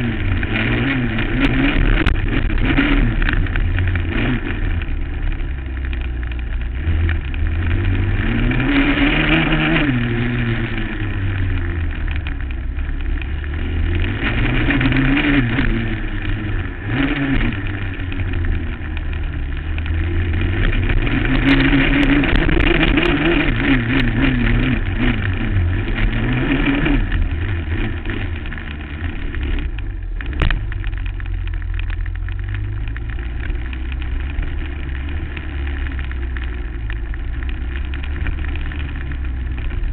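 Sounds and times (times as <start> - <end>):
quad engine revving: 0.0 - 36.4.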